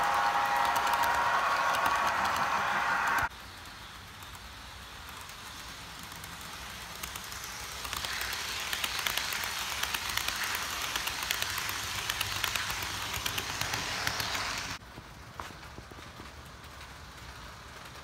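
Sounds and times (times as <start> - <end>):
model train wheels rattling on track: 0.0 - 18.0.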